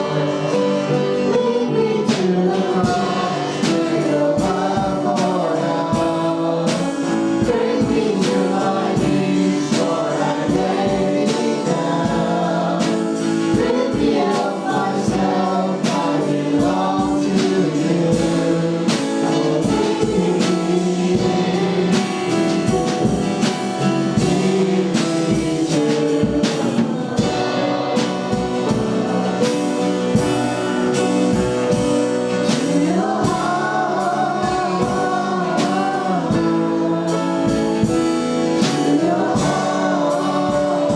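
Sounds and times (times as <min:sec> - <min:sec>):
gospel choir singing: 0:00.0 - 0:40.9
instrumental accompaniment with beat: 0:00.0 - 0:40.9.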